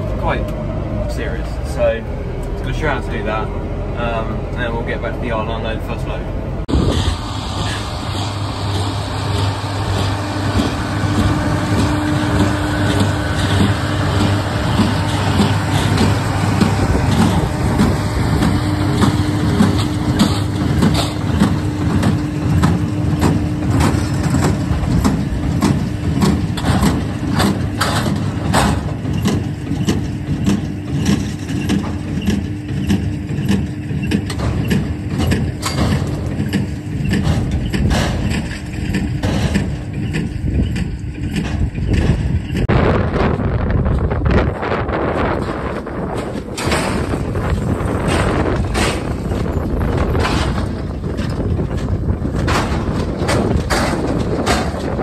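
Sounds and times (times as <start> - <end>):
tractor engine under load: 0.0 - 55.0
trailer clattering and rattling: 0.0 - 55.0.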